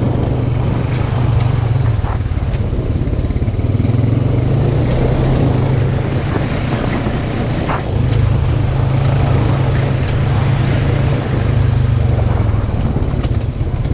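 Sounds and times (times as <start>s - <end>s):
off-road vehicle engine running: 0.0s - 13.9s.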